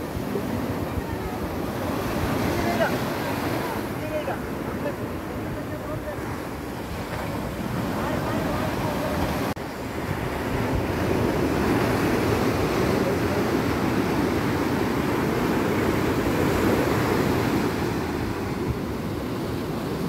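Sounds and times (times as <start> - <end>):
sea surf washing in: 0.0 - 20.0
wind buffeting microphone: 0.0 - 20.0.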